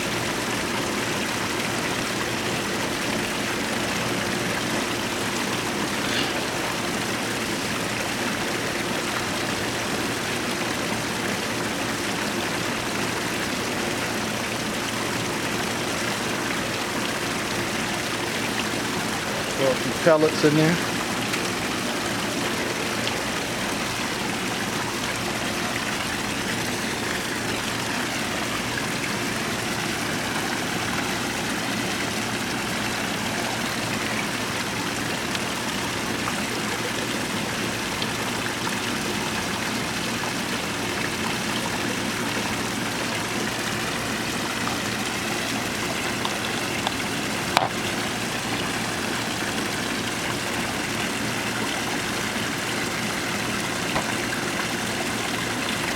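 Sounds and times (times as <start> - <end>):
water splashing and trickling: 0.0 - 55.9.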